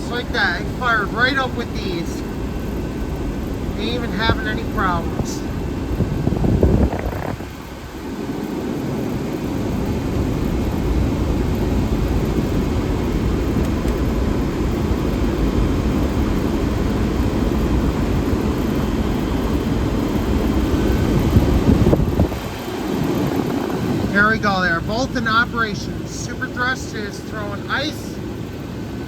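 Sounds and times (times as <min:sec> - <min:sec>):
air conditioner blower rushing: 0:00.0 - 0:29.0
low running hum: 0:00.0 - 0:29.0.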